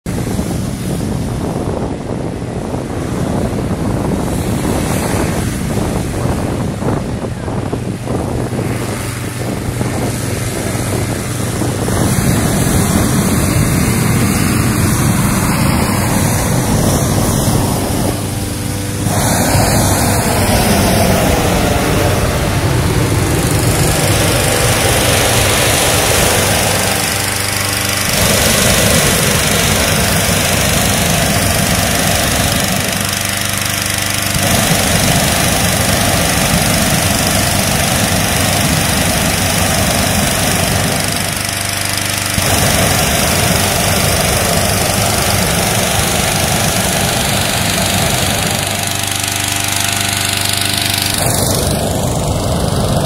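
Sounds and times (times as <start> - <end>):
fan air rushing: 0.0 - 53.0
petrol engine hum: 5.8 - 53.0.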